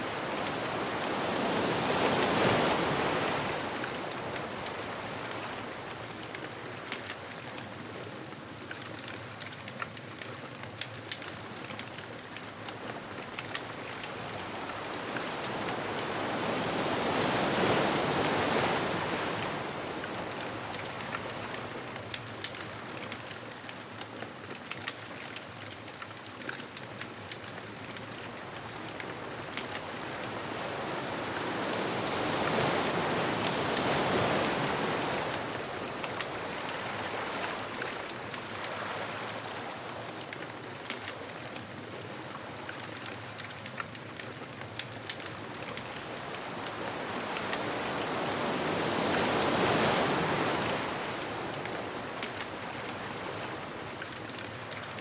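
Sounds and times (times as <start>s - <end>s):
waves breaking on a beach: 0.0s - 55.0s
bonfire crackling: 3.0s - 16.9s, 19.1s - 55.0s.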